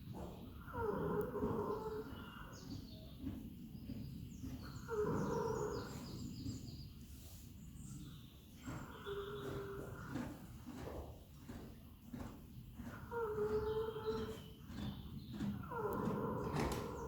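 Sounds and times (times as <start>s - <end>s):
horse snoring: 0.0s - 17.0s
small birds chirping: 0.1s - 17.0s.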